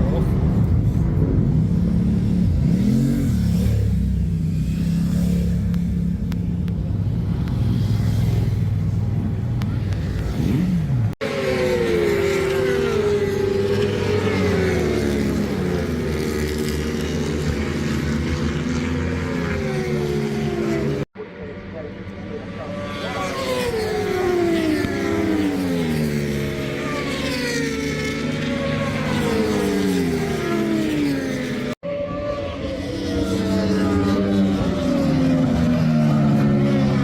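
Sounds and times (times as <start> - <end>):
racing motorcycles passing: 0.0 - 37.0.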